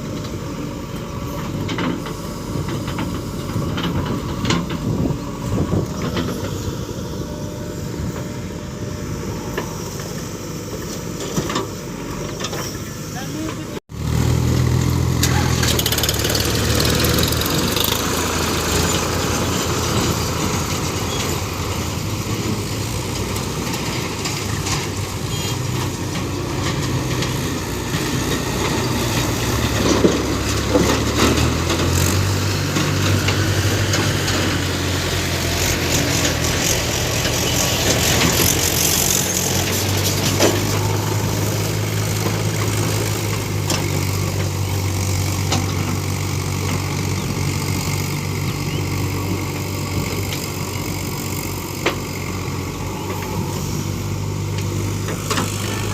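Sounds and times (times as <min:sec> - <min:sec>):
heavy diesel engine under load: 0:00.0 - 0:55.9.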